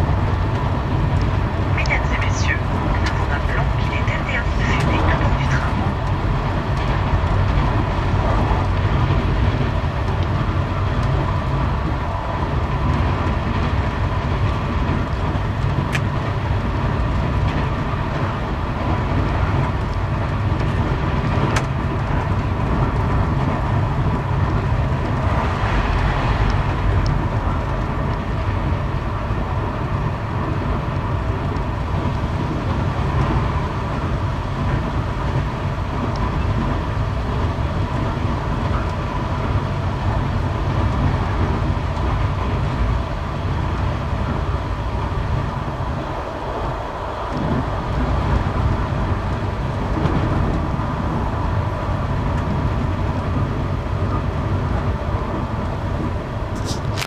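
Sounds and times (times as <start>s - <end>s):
passenger train rumbling: 0.0s - 57.0s.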